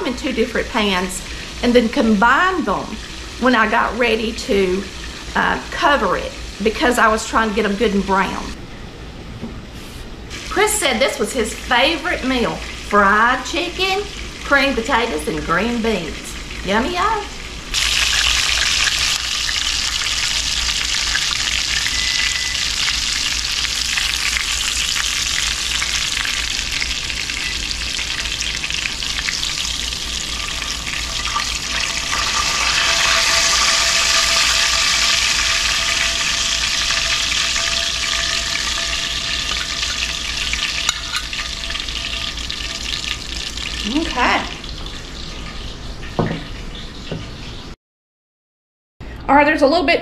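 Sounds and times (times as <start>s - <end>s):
chicken frying in hot grease: 0.0s - 8.6s, 10.3s - 47.8s.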